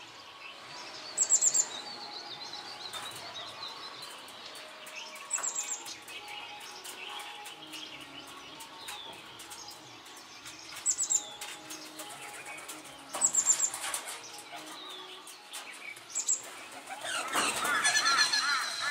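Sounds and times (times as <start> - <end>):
birds chirping: 0.0 - 18.9
bird wing flaps and calls: 2.8 - 18.9.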